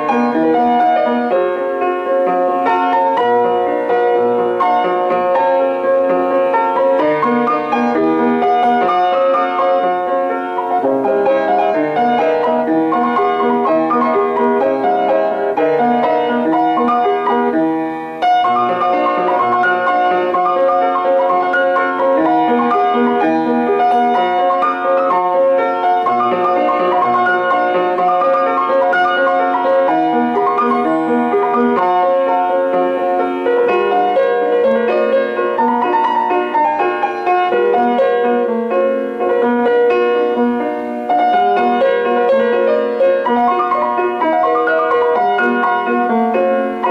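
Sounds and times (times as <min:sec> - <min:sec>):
piano music: 0:00.0 - 0:46.9.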